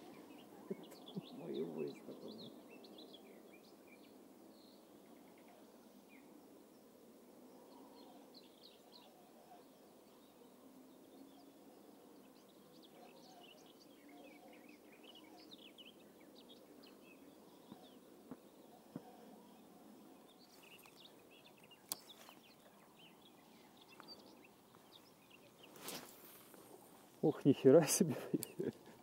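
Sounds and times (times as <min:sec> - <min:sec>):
small bird chirps: 0:00.0 - 0:06.4, 0:07.6 - 0:27.3.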